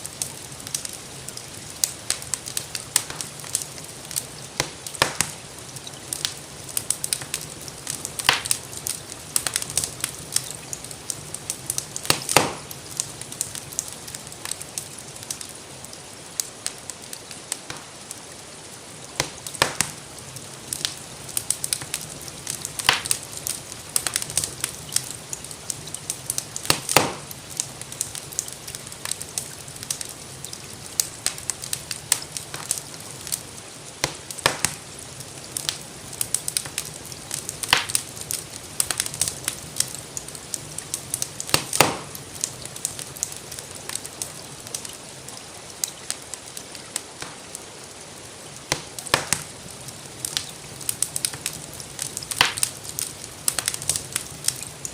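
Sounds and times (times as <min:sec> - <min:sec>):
soft hiss of rain: 0:00.0 - 0:54.9
wood fire crackling: 0:00.0 - 0:54.9.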